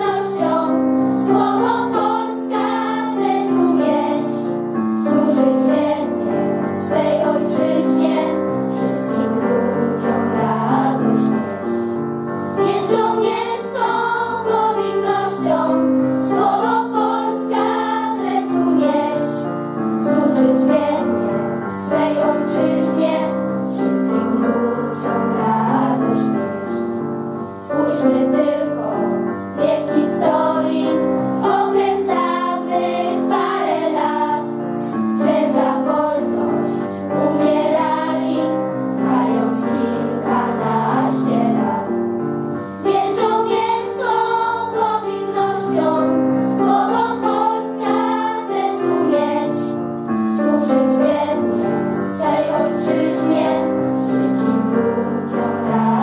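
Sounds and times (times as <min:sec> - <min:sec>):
girls choir singing: 0:00.0 - 0:27.0, 0:27.6 - 0:56.0.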